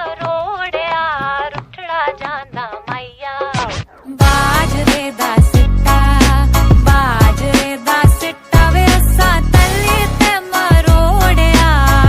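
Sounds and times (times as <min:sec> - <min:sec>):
song with melodic sung line: 0:00.0 - 0:12.0.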